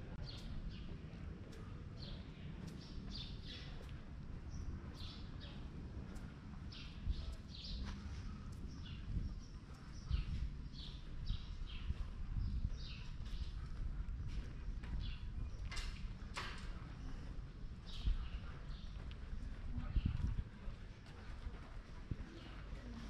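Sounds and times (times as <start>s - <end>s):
low outdoor rumble: 0.0s - 23.0s
small birds chirping: 0.1s - 23.0s.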